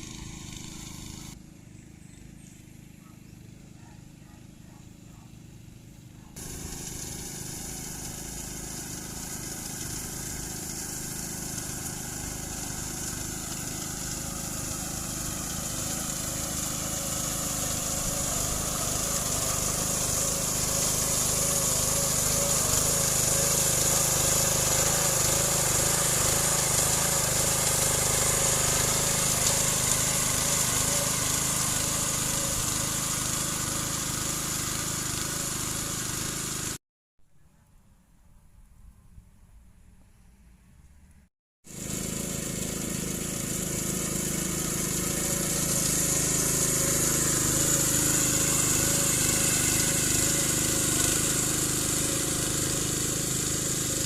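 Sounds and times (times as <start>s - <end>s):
small gasoline engine running: 0.0s - 36.8s, 41.6s - 54.0s.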